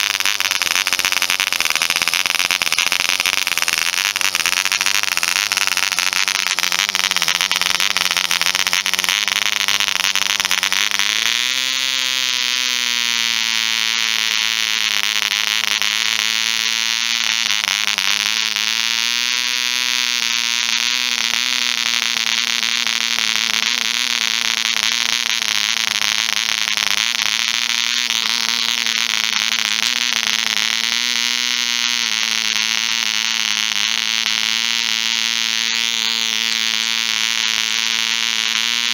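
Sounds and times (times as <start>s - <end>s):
model engine buzzing: 0.0s - 38.9s.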